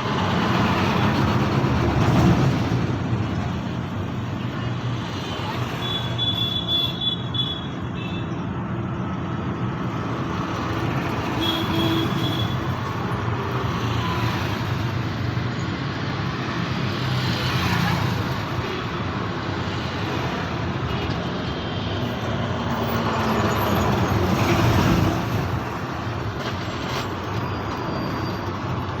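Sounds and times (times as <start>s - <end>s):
road traffic rumble: 0.0s - 29.0s
vehicles passing by: 0.0s - 29.0s.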